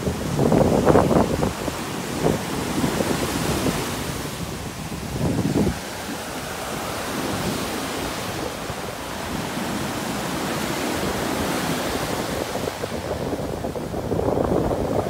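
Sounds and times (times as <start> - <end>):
surf breaking on a beach: 0.0 - 15.0
wind buffeting the microphone: 0.0 - 15.0.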